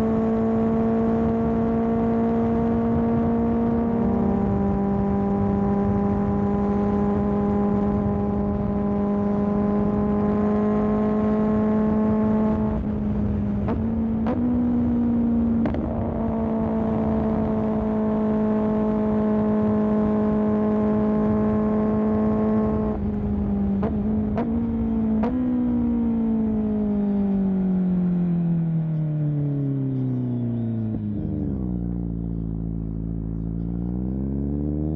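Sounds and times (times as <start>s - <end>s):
motorcycle engine revving high: 0.0s - 29.0s, 29.6s - 34.9s.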